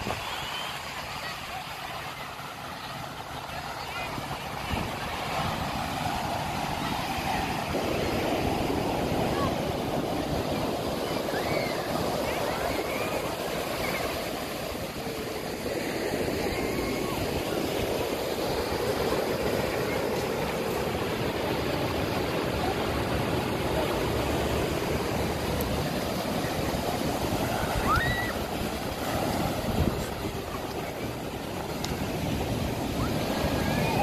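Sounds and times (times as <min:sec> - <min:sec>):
ocean waves breaking on beach: 0:00.0 - 0:34.0.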